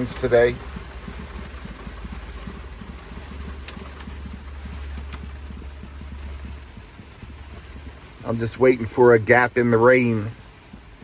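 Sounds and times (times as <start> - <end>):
light ticks: 0.0 - 8.9
heavy rain hissing: 0.0 - 11.0.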